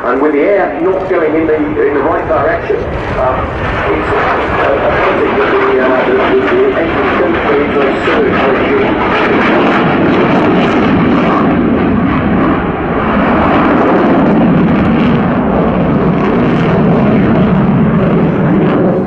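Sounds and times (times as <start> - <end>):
loud jet engine noise: 0.0 - 19.0.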